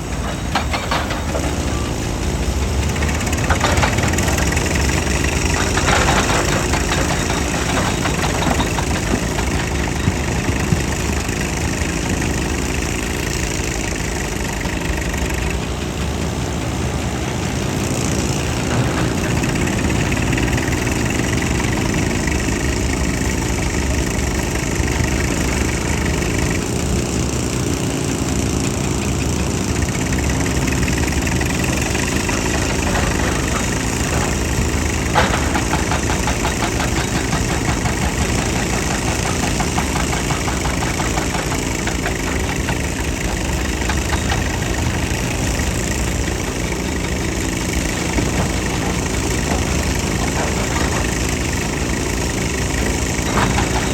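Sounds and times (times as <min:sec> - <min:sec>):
heavy machine engine running: 0:00.0 - 0:53.9.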